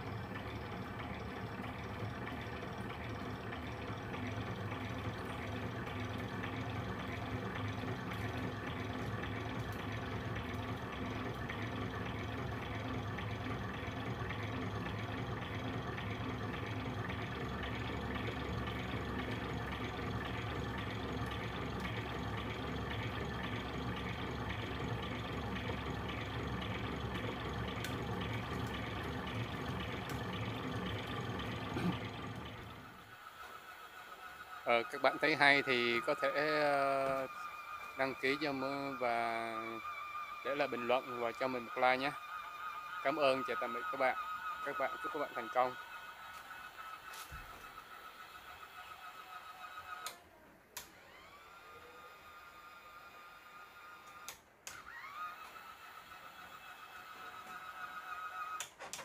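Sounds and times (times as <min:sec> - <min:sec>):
coil-winding machine whirring: 0:00.0 - 0:58.8.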